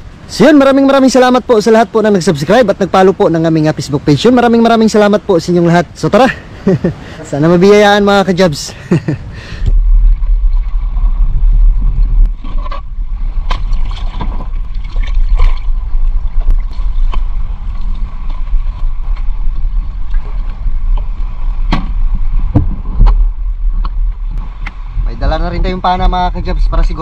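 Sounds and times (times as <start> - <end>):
boat engine rumble: 0.0 - 27.0.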